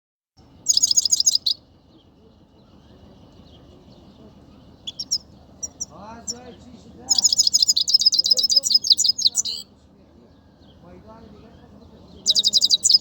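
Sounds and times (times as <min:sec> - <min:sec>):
finch twittering song: 0:00.4 - 0:13.0.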